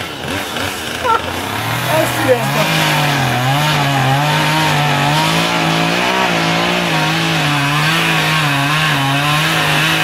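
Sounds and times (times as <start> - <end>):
chainsaw cutting wood: 0.0 - 10.0.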